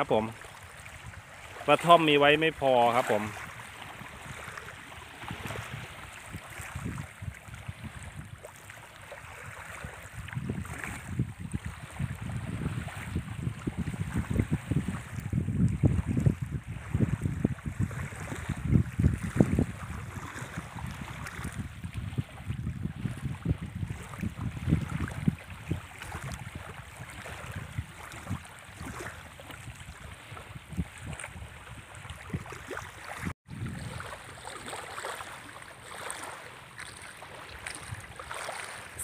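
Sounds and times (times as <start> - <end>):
wind buffeting microphone: 0.0 - 35.1, 35.9 - 39.0
small waves lapping on shore: 0.0 - 39.0.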